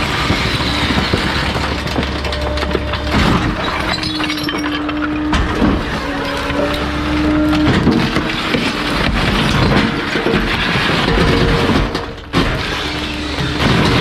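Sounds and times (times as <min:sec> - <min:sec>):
compactor crushing waste: 0:00.0 - 0:14.0
truck machinery hum: 0:00.0 - 0:14.0.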